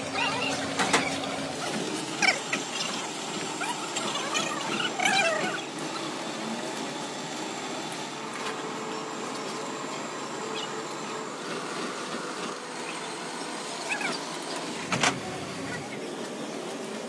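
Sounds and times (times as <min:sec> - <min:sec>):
workshop machinery running: 0:00.0 - 0:17.0.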